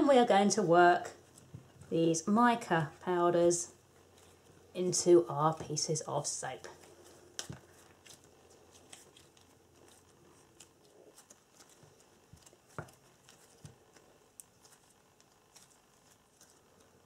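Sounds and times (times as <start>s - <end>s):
hands kneading soft dough: 0.0s - 17.0s.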